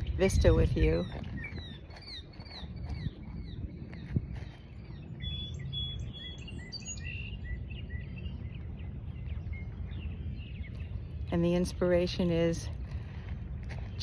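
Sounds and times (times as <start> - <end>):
small birds chirping: 0.0 - 12.5
low wind rumble: 0.0 - 14.0.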